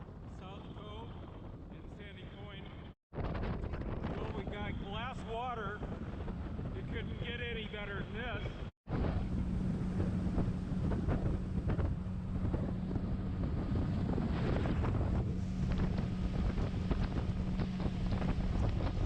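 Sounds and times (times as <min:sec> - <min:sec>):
motorboat engine drone: 0:00.0 - 0:19.0
wind buffeting microphone: 0:00.0 - 0:19.0
water rushing along hull: 0:03.2 - 0:19.0.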